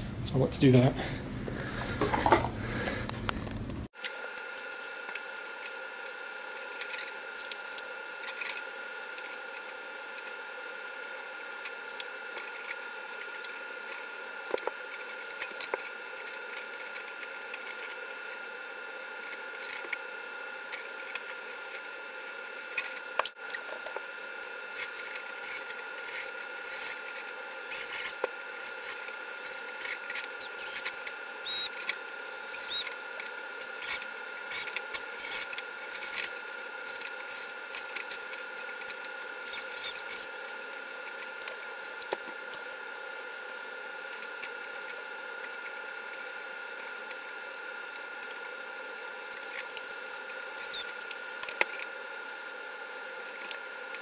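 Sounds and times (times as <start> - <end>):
faint high hum: 0.0 - 54.0.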